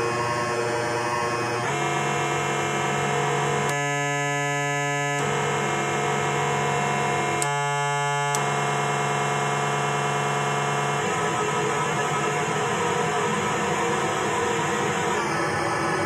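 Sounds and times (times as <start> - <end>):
grainy electronic synthesizer tone: 0.0 - 16.0.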